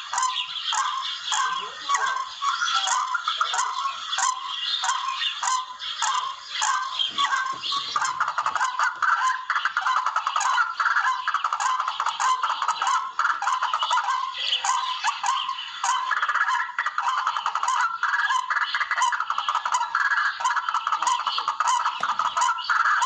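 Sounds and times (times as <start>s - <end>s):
rail bird calls: 0.0s - 23.0s.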